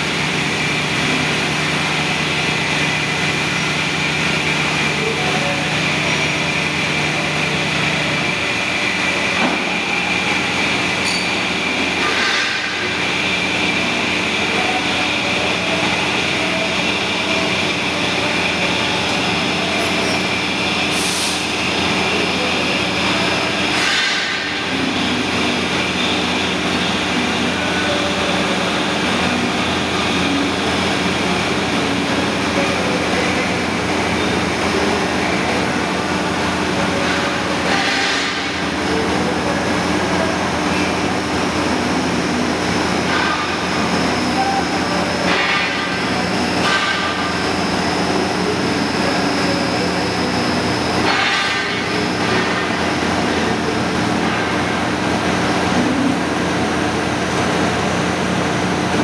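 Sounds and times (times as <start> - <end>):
roller conveyor rumbling: 0.0 - 59.0.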